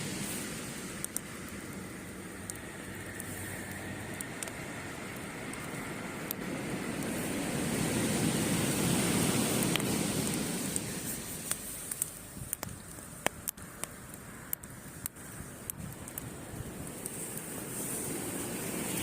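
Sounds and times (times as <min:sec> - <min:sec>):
wave washing on beach: 0:00.0 - 0:12.9, 0:13.8 - 0:19.0
campfire crackling and popping: 0:00.0 - 0:19.0.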